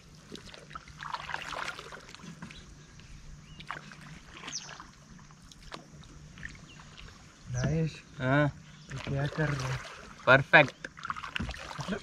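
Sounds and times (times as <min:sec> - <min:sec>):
paddle splashing in water: 0:00.0 - 0:02.7, 0:03.6 - 0:07.4, 0:08.9 - 0:12.0.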